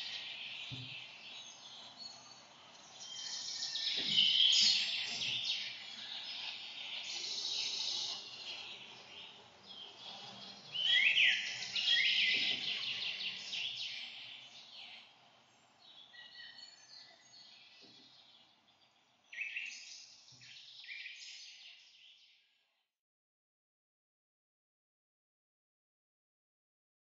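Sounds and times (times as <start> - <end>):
birds chirping and trilling: 0.0 - 22.4.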